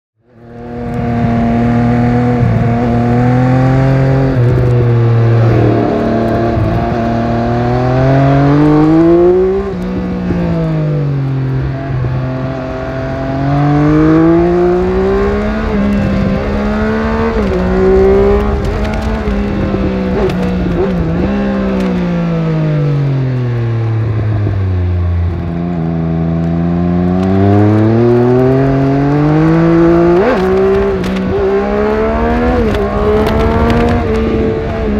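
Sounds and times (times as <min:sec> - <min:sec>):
motorcycle engine accelerating: 0:00.2 - 0:34.9.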